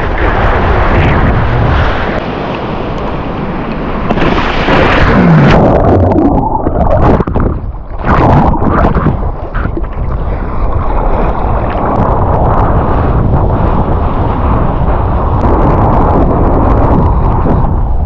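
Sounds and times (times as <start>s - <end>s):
water splashing and rushing: 0.0s - 18.0s
wind buffeting microphone: 0.0s - 18.0s.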